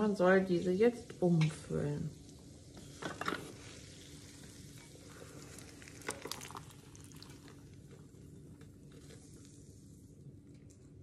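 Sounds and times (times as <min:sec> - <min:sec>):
faint fat sizzle: 0:00.0 - 0:11.0.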